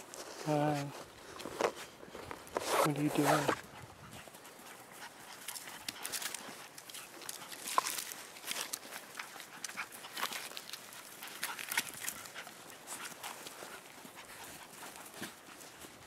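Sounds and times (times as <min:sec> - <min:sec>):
puppies rustling and scratching straw: 0:00.0 - 0:16.0.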